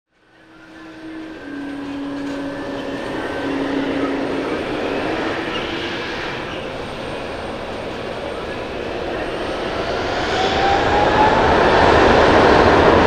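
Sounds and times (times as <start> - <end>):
jet engines running: 0.2 - 13.0.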